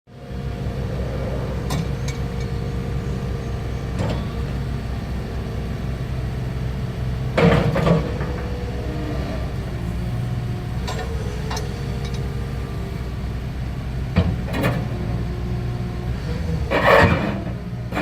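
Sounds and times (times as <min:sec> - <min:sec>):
diesel engine running: 0:00.1 - 0:18.0.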